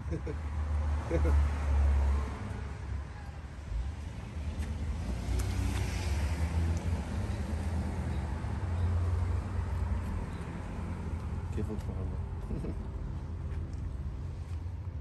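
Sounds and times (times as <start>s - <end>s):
low rumble of outdoor background: 0.0s - 15.0s.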